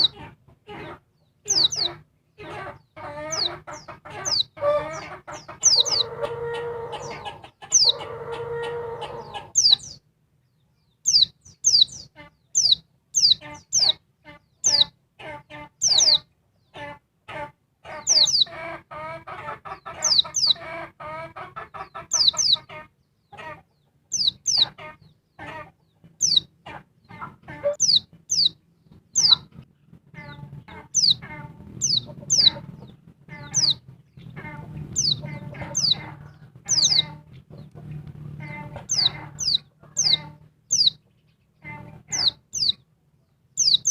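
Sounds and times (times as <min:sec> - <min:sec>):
bird chattering: 0:00.0 - 0:10.0, 0:11.0 - 0:42.8, 0:43.6 - 0:43.9
bird chirping high: 0:00.0 - 0:10.0, 0:10.8 - 0:16.9, 0:17.9 - 0:20.9, 0:21.6 - 0:43.9.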